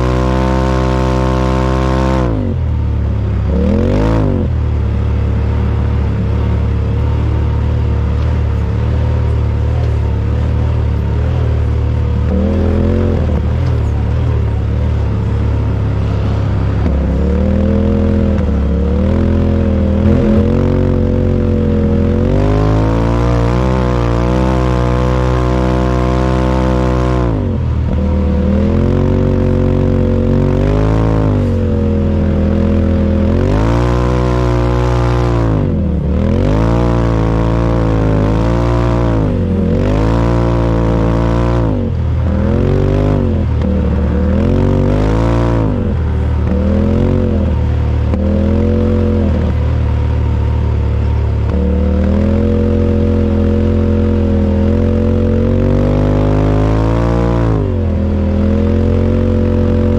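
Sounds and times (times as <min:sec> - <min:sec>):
utv engine revving: 0:00.0 - 0:59.9.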